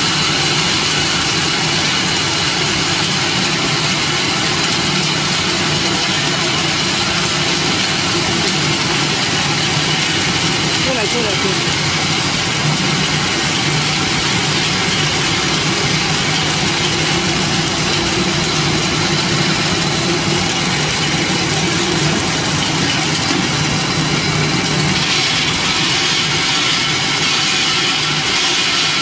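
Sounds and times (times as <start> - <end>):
continuous machine hiss: 0.0 - 29.0
machine motor hum: 0.0 - 29.0.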